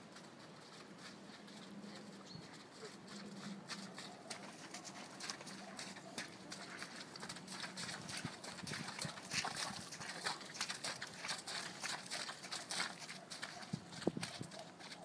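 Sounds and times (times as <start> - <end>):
horse hooves trotting on mud: 0.0 - 15.0.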